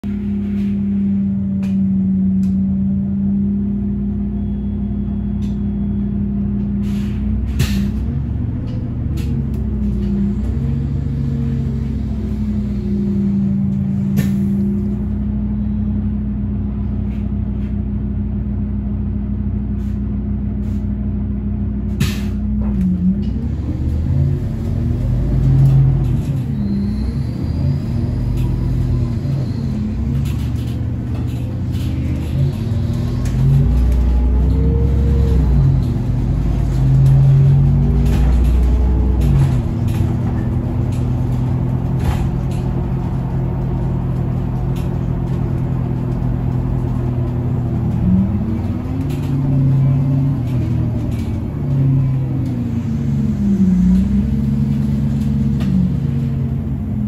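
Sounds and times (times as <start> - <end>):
bus engine humming: 0.0 - 57.0.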